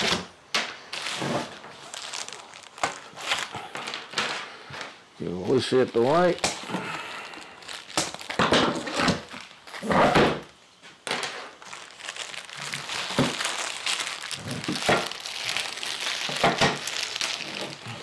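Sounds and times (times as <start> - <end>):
packing tape tearing: 0.0 - 18.0
plastic wrapping crinkling: 0.0 - 18.0.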